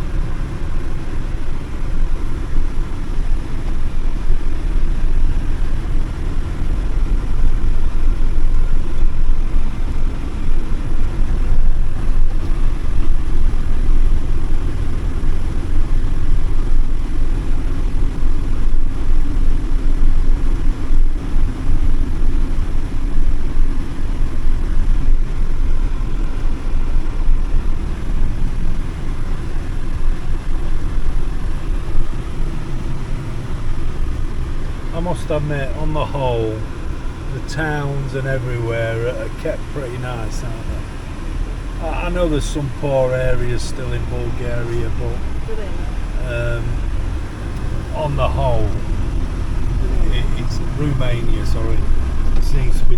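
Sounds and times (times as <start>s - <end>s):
vehicle engine and tyre rumble: 0.0s - 52.9s.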